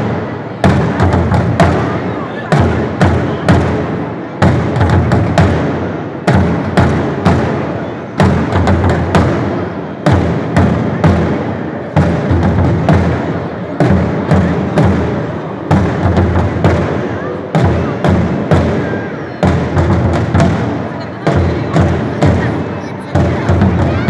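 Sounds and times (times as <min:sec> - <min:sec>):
dhol drums in fast rhythm: 0:00.0 - 0:24.0.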